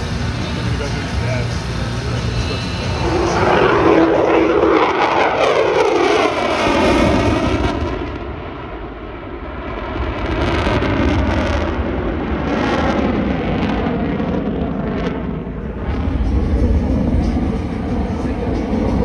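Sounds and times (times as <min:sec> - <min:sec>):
fighter jet flying past: 0:00.0 - 0:19.0.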